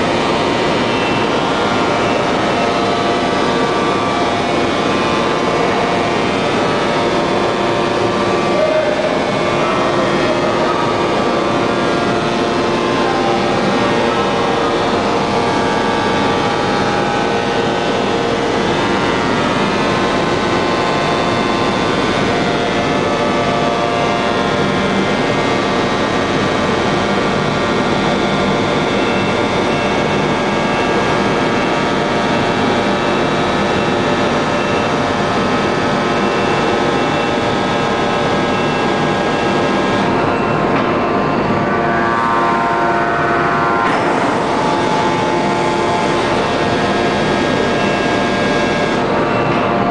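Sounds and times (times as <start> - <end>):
industrial machinery humming: 0.0 - 49.9.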